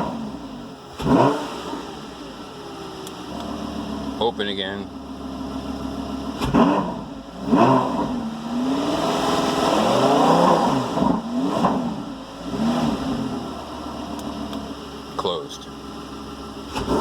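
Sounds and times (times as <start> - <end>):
sports car engine revving: 0.0 - 17.0.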